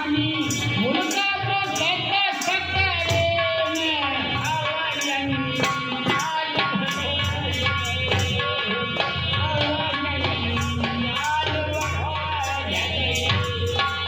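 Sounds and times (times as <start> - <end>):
steady percussion beat: 0.0 - 14.0.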